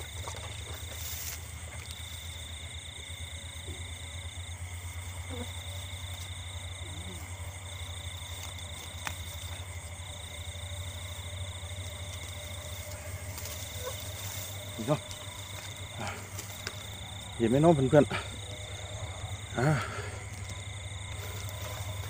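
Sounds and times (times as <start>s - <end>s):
high insect trill: 0.0s - 22.0s
pulsing frog chorus: 0.0s - 22.0s.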